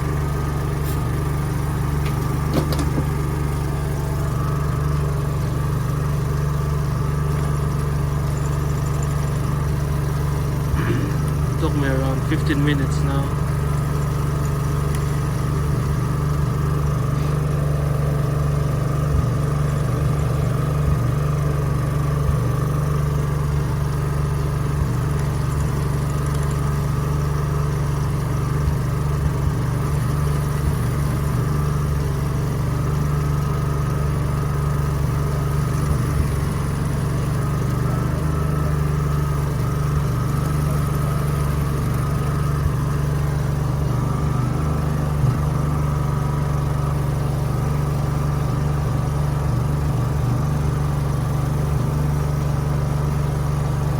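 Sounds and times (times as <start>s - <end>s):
generator engine humming: 0.0s - 53.9s.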